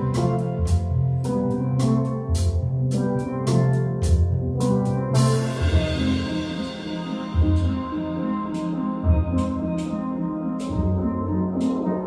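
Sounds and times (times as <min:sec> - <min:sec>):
steel band playing: 0:00.0 - 0:12.0.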